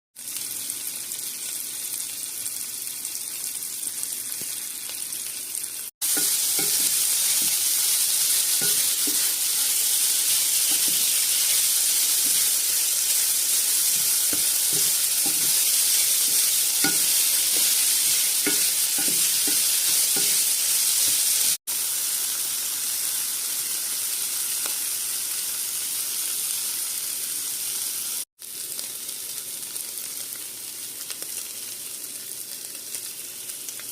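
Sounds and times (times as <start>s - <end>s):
food sizzling in a frying pan: 0.2s - 33.9s.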